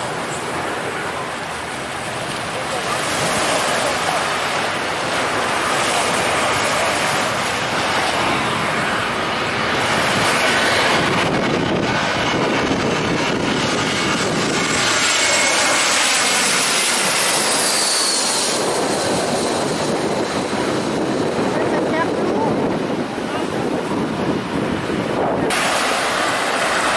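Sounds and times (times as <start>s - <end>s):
jet engine roar: 0.0s - 26.9s
surf washing: 0.0s - 26.9s.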